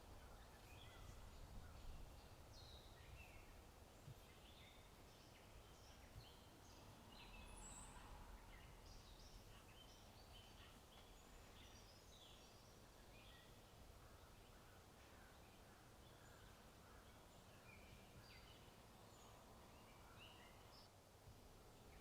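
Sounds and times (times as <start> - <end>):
birds chirping: 0.0 - 20.9
low background hiss: 0.0 - 22.0.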